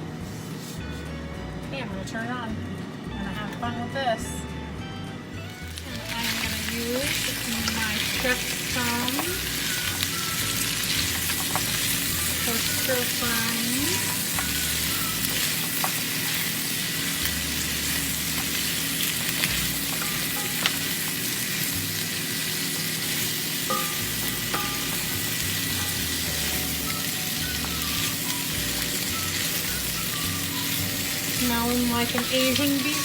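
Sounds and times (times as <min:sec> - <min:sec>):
chicken sizzling in a wok: 0:05.5 - 0:33.0.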